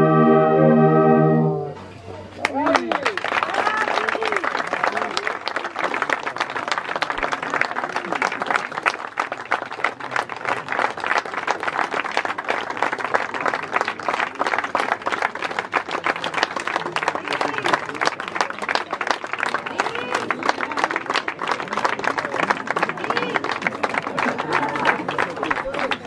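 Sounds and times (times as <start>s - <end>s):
audience applauding: 2.4s - 26.0s.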